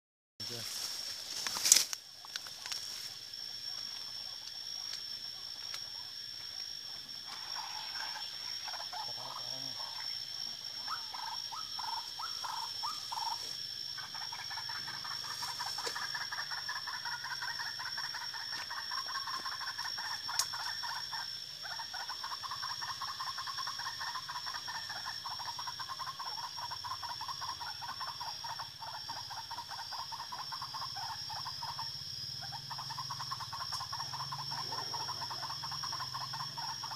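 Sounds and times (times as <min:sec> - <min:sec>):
waterhen croaking chatter: 0:06.8 - 0:36.9.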